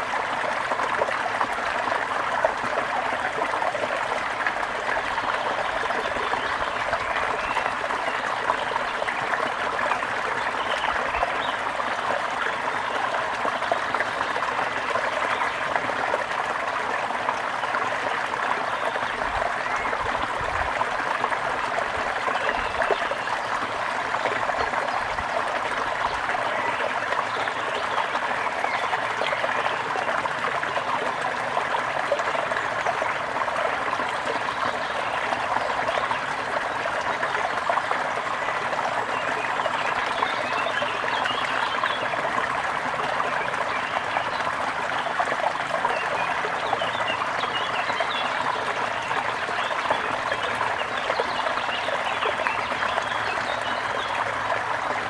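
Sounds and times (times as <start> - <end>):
water trickling and bubbling: 0.0 - 55.0.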